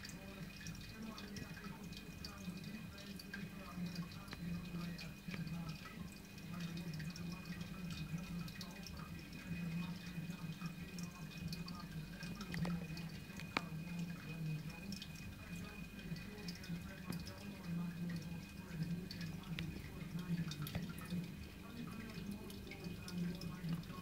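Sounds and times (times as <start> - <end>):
aquarium filter humming: 0.0 - 24.0
water trickling and dripping: 0.0 - 24.0.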